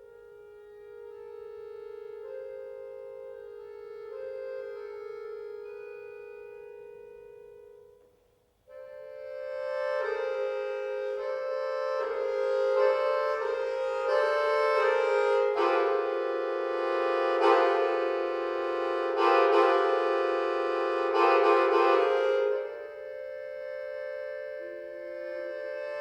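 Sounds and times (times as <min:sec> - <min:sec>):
accordion playing chords: 0:00.0 - 0:26.0.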